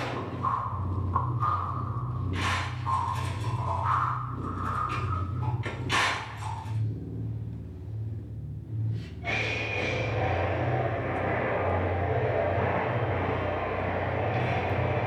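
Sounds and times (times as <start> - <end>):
deep throbbing drone: 0.0 - 15.0.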